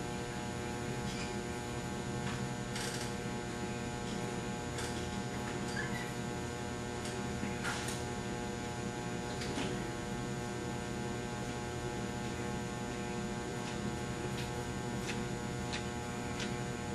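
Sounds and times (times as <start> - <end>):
electrical mains hum: 0.0 - 16.9.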